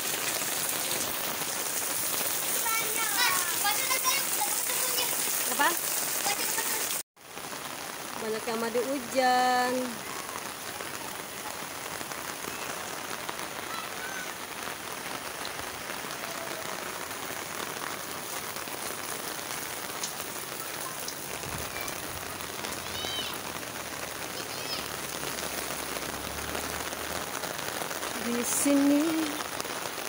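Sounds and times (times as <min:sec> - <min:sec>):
heavy rain on pavement and roofs: 0:00.0 - 0:30.0.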